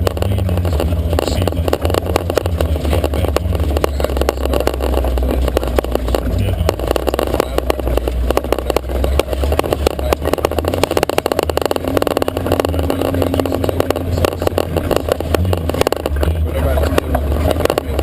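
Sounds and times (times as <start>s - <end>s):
engine low rumble: 0.0s - 18.0s
steady hum: 0.0s - 18.0s
vehicle rattling and knocking: 0.0s - 18.0s.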